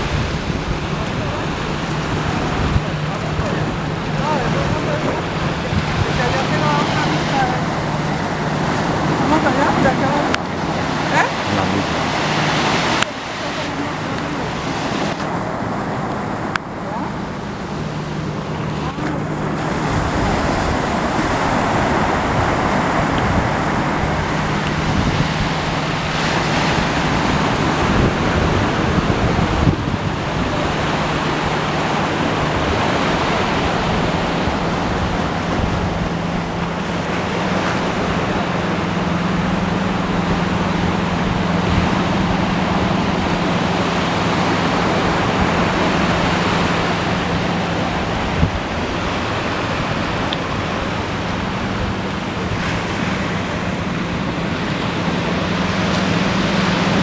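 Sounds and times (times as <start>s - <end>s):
ocean waves and surf: 0.0s - 57.0s.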